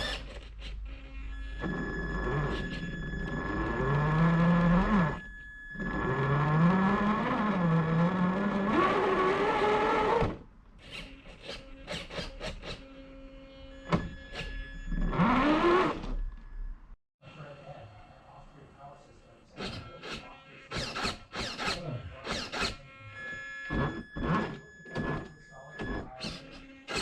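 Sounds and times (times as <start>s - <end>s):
electric motor whining: 0.0s - 16.7s, 19.6s - 27.0s.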